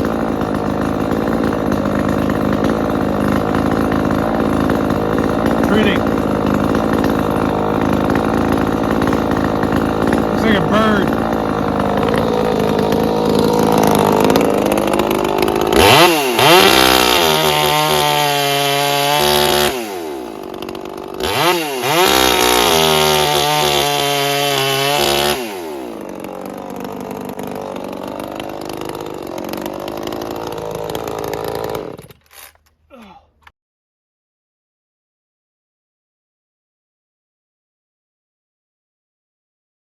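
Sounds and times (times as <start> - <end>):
chainsaw idling and revving: 0.0 - 33.5.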